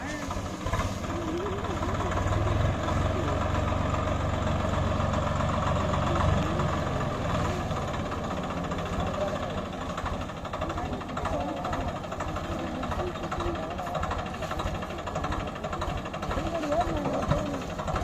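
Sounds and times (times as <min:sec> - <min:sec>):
tractor diesel engine rumbling: 0:00.0 - 0:18.0.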